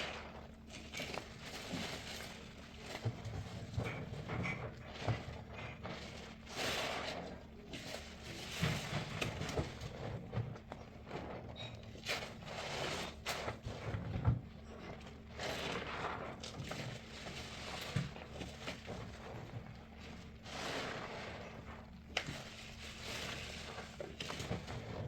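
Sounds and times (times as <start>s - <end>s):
soapy sponge squelching: 0.0s - 25.0s.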